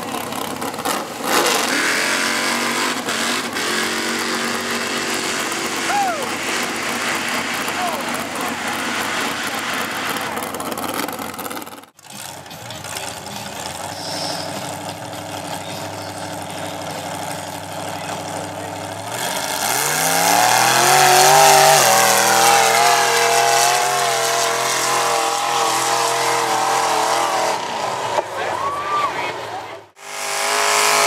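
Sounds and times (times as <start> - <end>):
truck engine idling and revving: 0.0 - 31.0.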